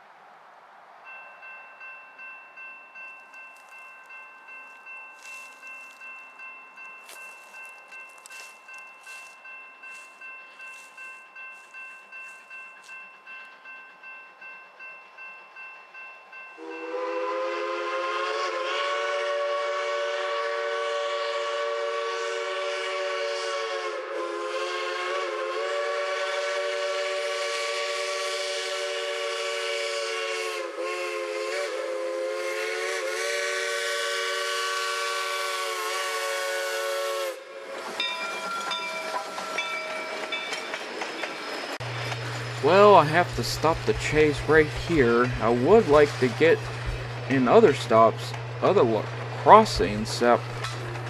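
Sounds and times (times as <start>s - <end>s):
steam locomotive chime whistle: 1.1s - 51.0s.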